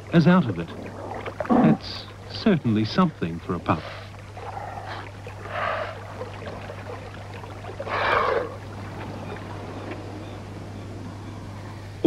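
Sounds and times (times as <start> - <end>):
water splashing in rock pool: 0.0 - 10.5
steady low hum: 0.0 - 12.0.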